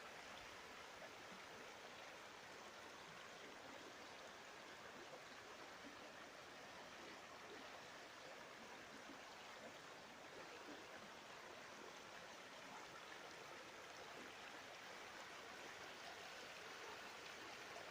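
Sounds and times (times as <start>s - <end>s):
river water rushing and burbling: 0.0s - 17.9s.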